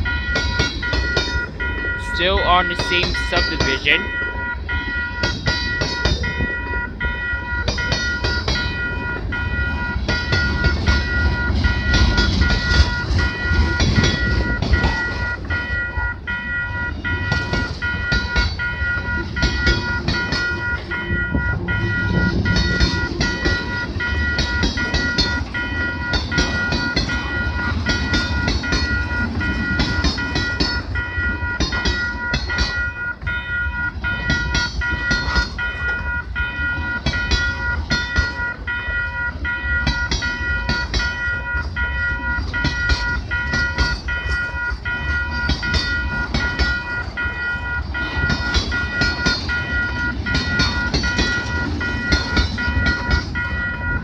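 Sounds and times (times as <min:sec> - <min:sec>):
crossing bell ringing: 0:00.0 - 0:54.0
train wheels clacking on rails: 0:00.0 - 0:54.0.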